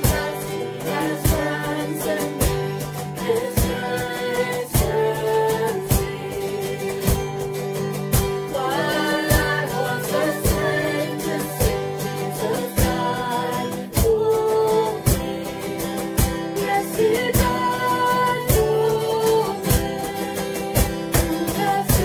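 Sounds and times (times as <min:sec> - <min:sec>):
acoustic guitar strumming: 0:00.0 - 0:22.0
people singing a worship song: 0:00.0 - 0:22.0.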